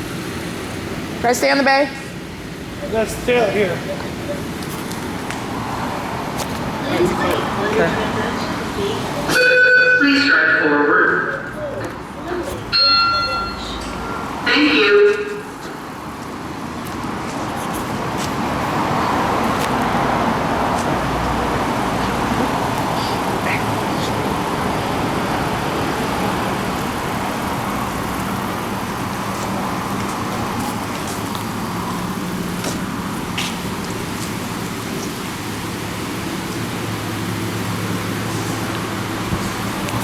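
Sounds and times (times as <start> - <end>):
car wash water spray hissing: 0.0 - 9.5, 15.3 - 40.0.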